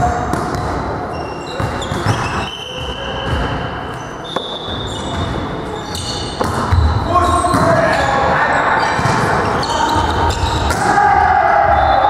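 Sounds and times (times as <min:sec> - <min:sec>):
players' voices: 0:00.0 - 0:12.0
sneakers squeaking on gym floor: 0:00.1 - 0:10.8.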